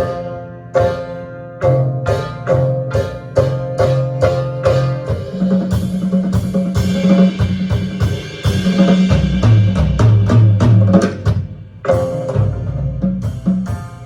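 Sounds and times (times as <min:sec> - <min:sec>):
drum kit hits: 0:00.0 - 0:14.0.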